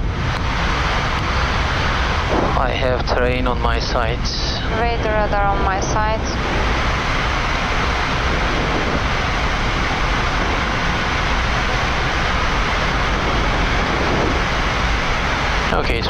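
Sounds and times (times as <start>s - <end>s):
jet engine rushing hiss: 0.0s - 16.0s.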